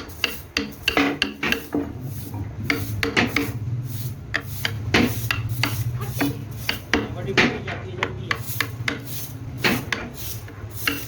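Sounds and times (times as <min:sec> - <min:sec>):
hand tool scraping workpiece: 0:00.0 - 0:11.0
steady low hum: 0:00.0 - 0:11.0.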